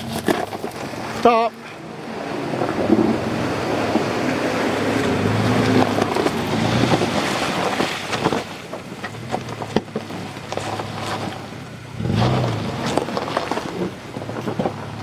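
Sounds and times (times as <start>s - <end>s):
off-road vehicle engine running: 0.0s - 15.0s
water splashing: 0.6s - 15.0s.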